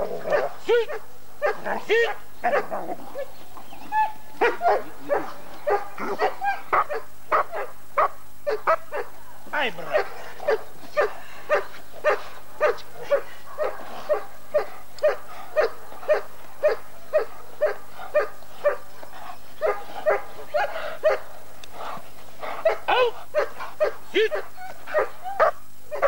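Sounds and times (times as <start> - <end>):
dog barking: 0.3 - 2.8, 4.4 - 9.1, 9.9 - 18.8, 19.6 - 21.3, 22.6 - 26.0.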